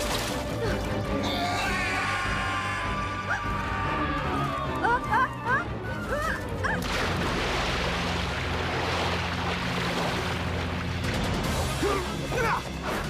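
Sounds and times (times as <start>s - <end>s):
soundtrack music with low tones: 0.0s - 13.0s.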